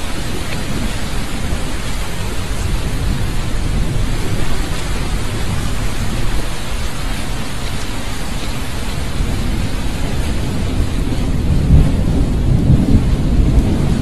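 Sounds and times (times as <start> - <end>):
deep rumble: 0.0 - 14.0.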